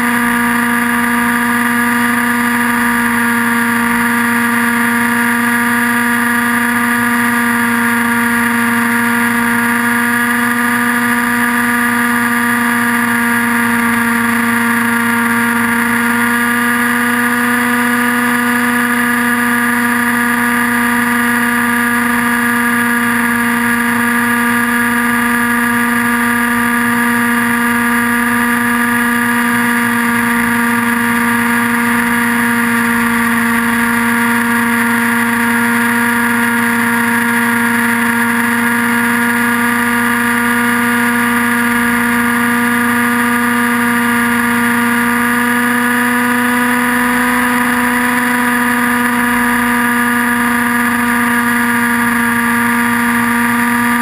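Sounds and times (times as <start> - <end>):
rc helicopter engine and rotor: 0.0 - 54.0.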